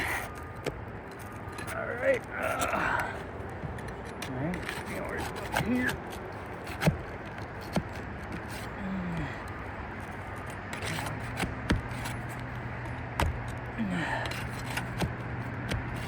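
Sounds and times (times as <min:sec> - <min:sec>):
shingles clicking and scraping: 0:00.0 - 0:16.0.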